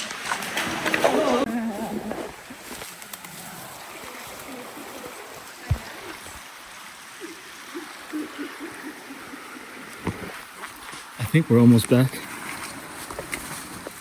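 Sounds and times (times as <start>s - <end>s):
stream running water: 0.0s - 14.0s.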